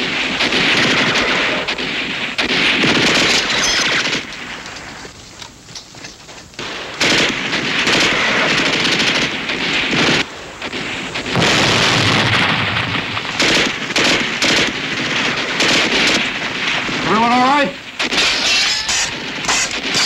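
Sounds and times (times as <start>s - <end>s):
machine-gun fire: 0.0s - 5.1s, 6.6s - 20.0s
rifle shots: 0.0s - 20.0s.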